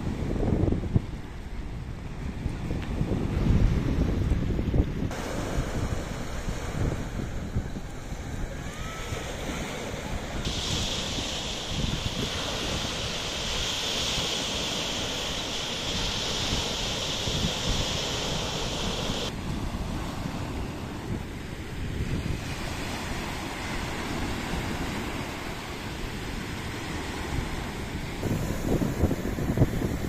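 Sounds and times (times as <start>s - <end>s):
small waves breaking on beach: 0.0s - 30.0s
wind buffeting microphone: 0.0s - 30.0s.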